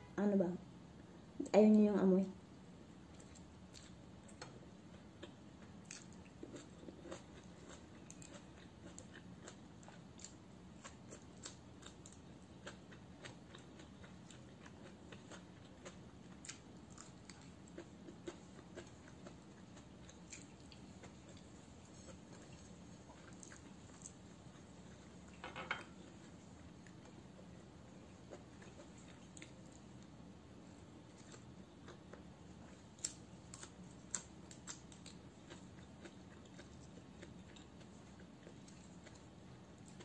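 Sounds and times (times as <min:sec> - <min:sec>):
faint crunchy chewing: 0:03.1 - 0:40.0.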